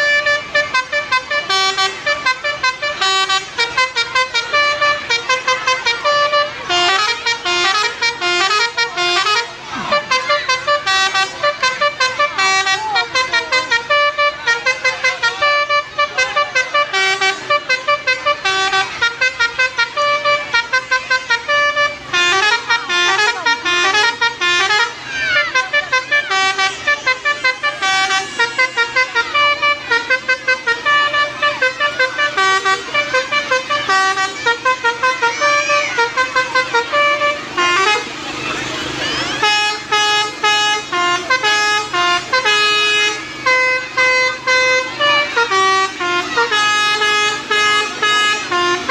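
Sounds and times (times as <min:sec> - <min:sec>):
multi-tone vehicle horn tune: 0:00.0 - 0:48.9.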